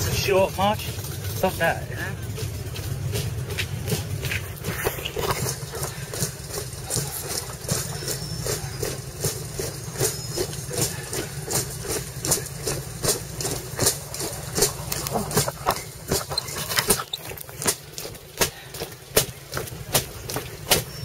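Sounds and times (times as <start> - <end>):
marching boots on tarmac: 0.0 - 21.0
motorcycle engine idling: 0.0 - 21.0.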